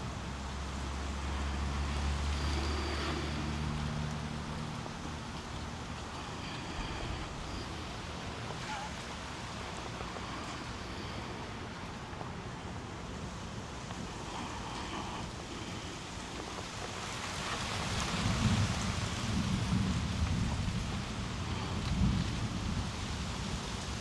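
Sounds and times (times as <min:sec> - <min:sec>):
low droning engine hum: 0:00.0 - 0:23.8
wind-like hiss: 0:00.0 - 0:24.0.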